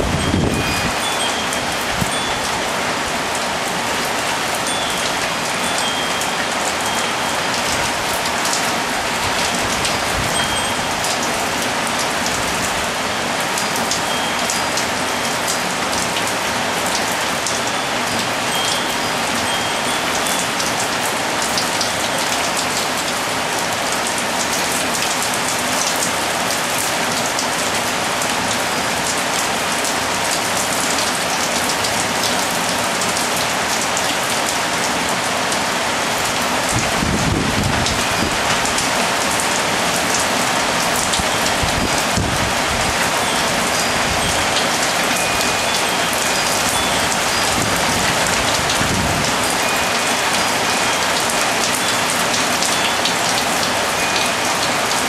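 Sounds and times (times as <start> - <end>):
high wind chime tones: 0.0 - 27.2, 36.2 - 55.0
heavy rain splashing on a balcony: 0.0 - 55.0.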